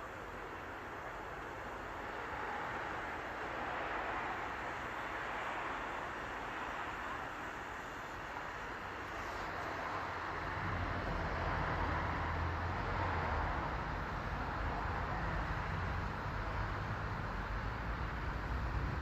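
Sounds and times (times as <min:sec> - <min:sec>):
low engine hum: 0:00.0 - 0:19.0
train rushing noise: 0:00.0 - 0:19.0.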